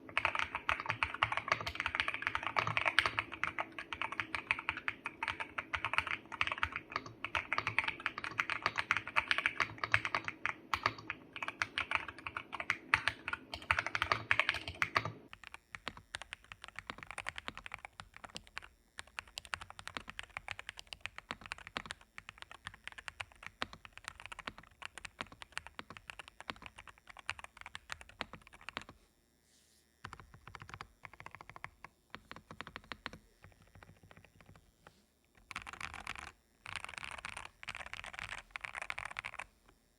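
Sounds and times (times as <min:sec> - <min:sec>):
mechanical keyboard typing: 0:00.0 - 0:29.0, 0:30.0 - 0:34.7, 0:35.4 - 0:39.5.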